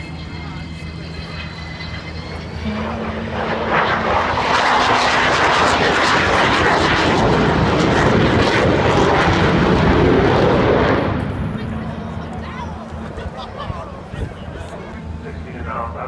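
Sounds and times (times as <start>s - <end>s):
jet aircraft roar: 0.0s - 16.0s.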